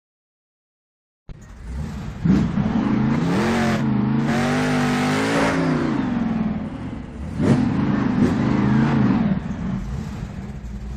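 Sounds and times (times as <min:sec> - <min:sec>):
monster truck engine revving: 0:01.4 - 0:10.9.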